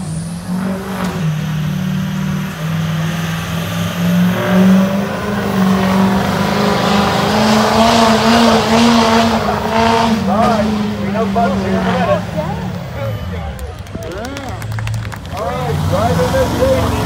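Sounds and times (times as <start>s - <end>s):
diesel truck engine at full throttle: 0.0s - 17.0s.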